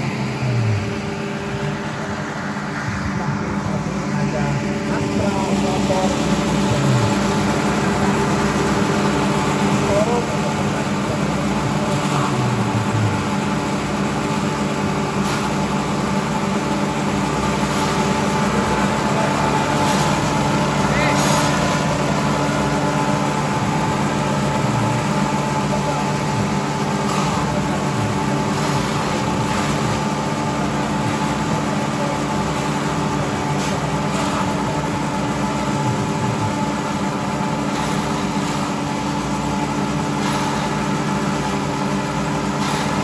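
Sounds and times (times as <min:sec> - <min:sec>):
grass chopper engines droning: 0:00.0 - 0:43.0.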